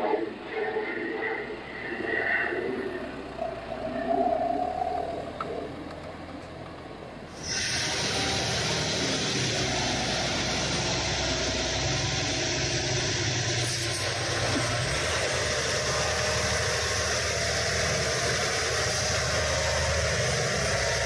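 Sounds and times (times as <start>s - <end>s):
tractor engine running hard: 0.0s - 21.0s.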